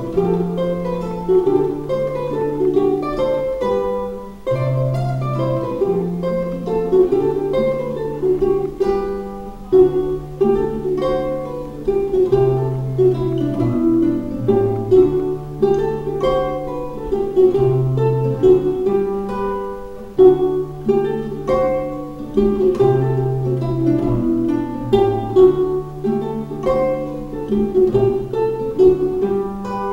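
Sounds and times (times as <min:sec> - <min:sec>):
ukulele and guitar duet: 0:00.0 - 0:29.9.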